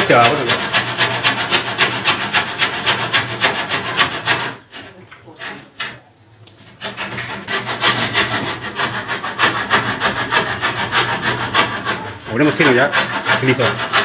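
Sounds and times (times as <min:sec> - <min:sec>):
hand saw cutting wood: 0:00.0 - 0:06.0, 0:06.6 - 0:14.0.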